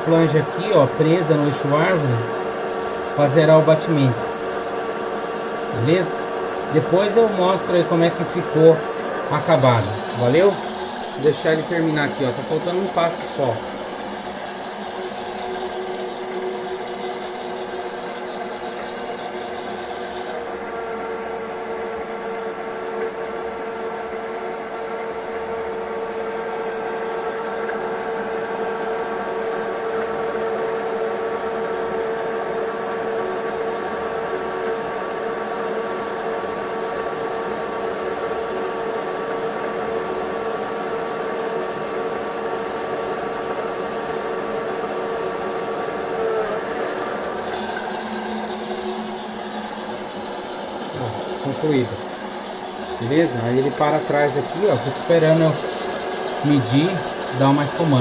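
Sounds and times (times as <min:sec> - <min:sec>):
lathe cutting noise: 0:00.0 - 0:58.0
lathe machine whine: 0:00.0 - 0:58.0.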